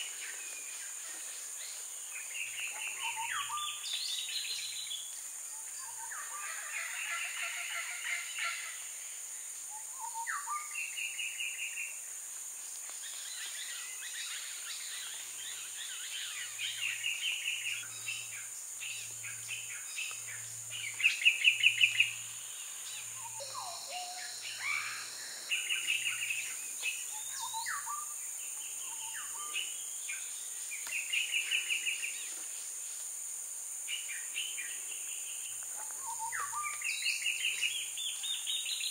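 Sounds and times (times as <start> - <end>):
tropical birds chattering: 0.0 - 12.0, 13.0 - 32.8, 33.9 - 38.9
high insect drone: 0.0 - 38.9.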